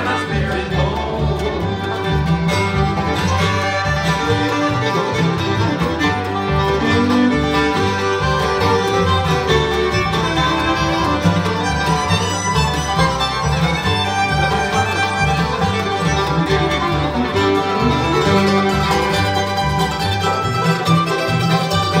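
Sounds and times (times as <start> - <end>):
bluegrass band playing: 0.0 - 22.0
fiddle: 0.0 - 22.0
walking upright bass: 0.0 - 22.0.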